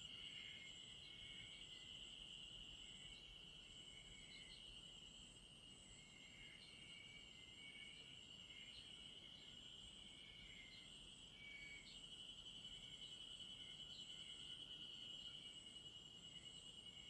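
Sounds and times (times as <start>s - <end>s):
insect chirps: 0.0s - 17.0s
insect high-pitched trill: 0.0s - 17.0s.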